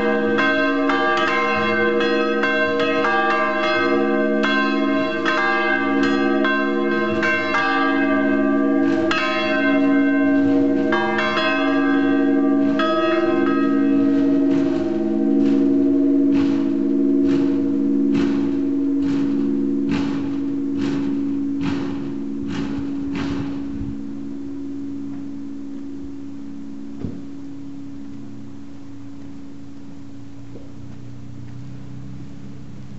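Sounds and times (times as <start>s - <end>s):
church bells pealing: 0.0s - 32.2s.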